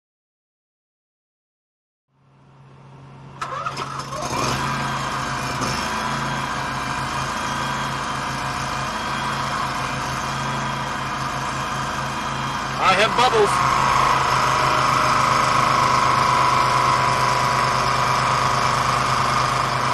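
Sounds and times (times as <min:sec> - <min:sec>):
engine starting and running: 0:02.6 - 0:19.9.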